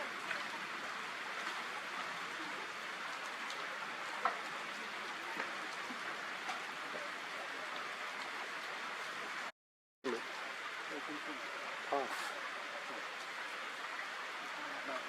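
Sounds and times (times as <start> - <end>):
individual raindrops: 0.0 - 15.0
steady rain hiss: 0.0 - 15.0.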